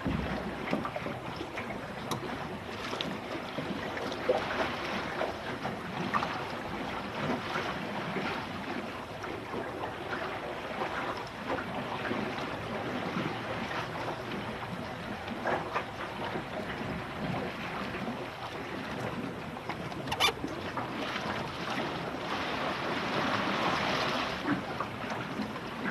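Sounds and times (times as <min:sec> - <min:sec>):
water splashing against hull: 0:00.0 - 0:25.9.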